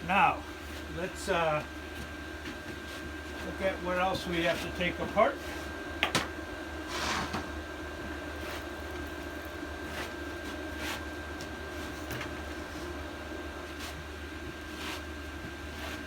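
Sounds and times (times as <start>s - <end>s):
low background hum: 0.0s - 16.0s
thin steady whine: 0.0s - 16.0s.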